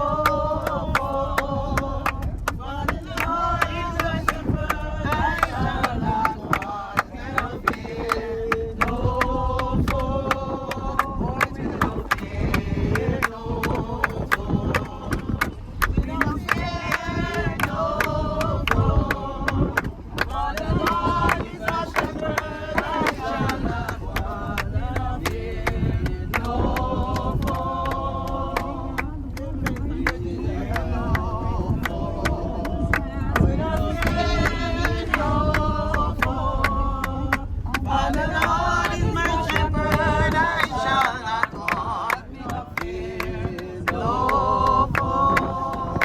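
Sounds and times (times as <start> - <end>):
congregation singing: 0.0 - 46.0
rhythmic hand claps: 0.0 - 46.0.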